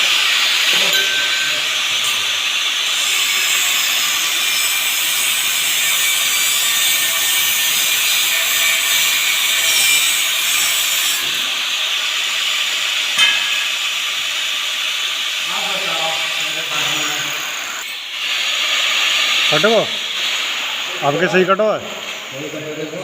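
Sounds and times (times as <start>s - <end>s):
metal cutting hiss: 0.0s - 23.0s.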